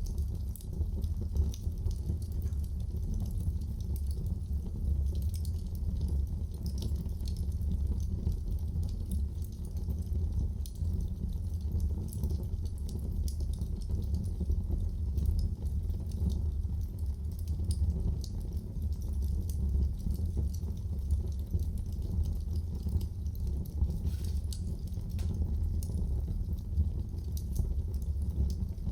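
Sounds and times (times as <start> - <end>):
low rumble of flames: 0.0 - 28.9
wood fire crackling and popping: 0.0 - 28.9.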